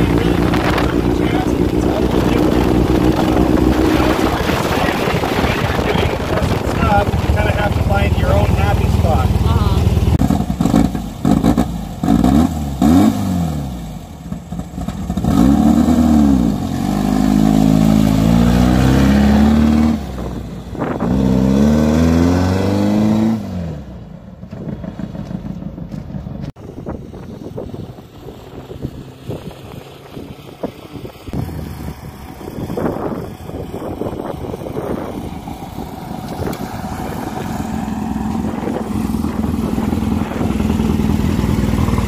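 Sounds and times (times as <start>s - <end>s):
race car engine revving: 0.0s - 26.5s, 27.6s - 42.0s.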